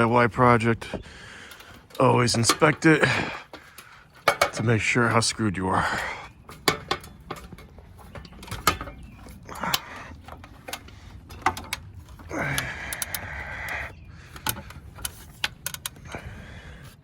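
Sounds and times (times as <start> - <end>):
ladder clanks and clicks: 0.0 - 17.0
ladder scrape: 0.0 - 17.0.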